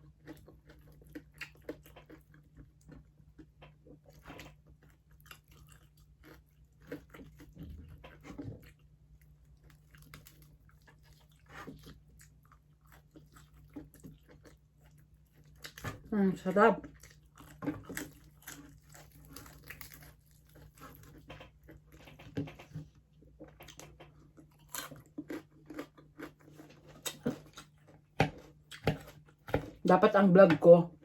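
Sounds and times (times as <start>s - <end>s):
chewing crunchy food: 0.0s - 16.1s, 16.7s - 29.9s.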